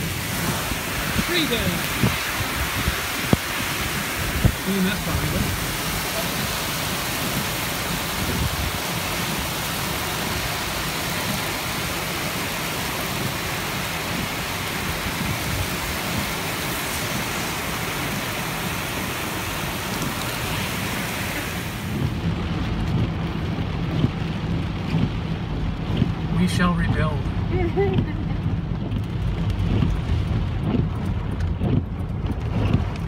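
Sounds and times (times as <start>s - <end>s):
heavy rain and wind hissing: 0.0s - 33.0s
muffled low rumble in car: 0.0s - 33.0s.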